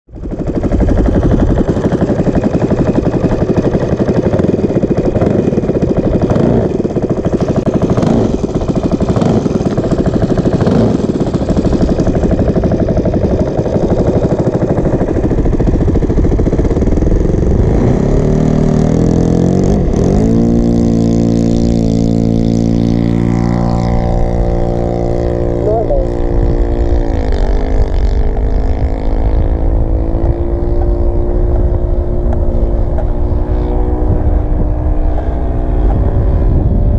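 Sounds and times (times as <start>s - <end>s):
model plane engine running: 0.2s - 36.9s.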